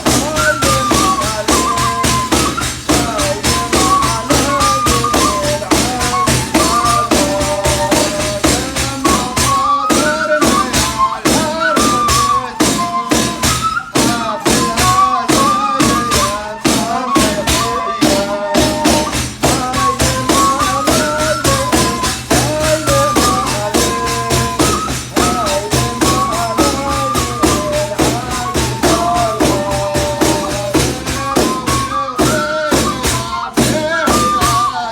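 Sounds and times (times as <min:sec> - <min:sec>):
flute melody: 0:00.0 - 0:34.9
frame drums beating: 0:00.0 - 0:34.9
people chanting: 0:00.0 - 0:34.9.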